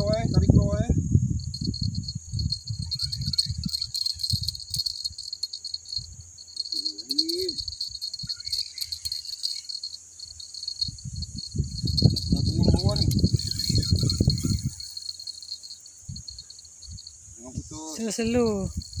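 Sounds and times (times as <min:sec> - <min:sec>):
wind rumble on microphone: 0:00.0 - 0:05.3, 0:05.9 - 0:09.2, 0:10.6 - 0:19.0
insects buzzing: 0:00.0 - 0:19.0.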